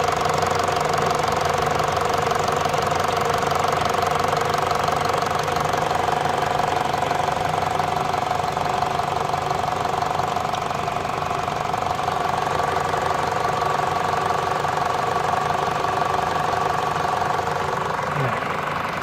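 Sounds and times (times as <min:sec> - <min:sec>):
car engine idling with ticking: 0:00.0 - 0:19.0.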